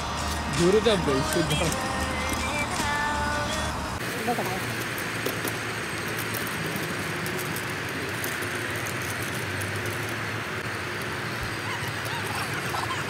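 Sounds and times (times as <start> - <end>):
low motor hum: 0.0 - 13.0
wheels rolling on pavement: 0.0 - 13.0.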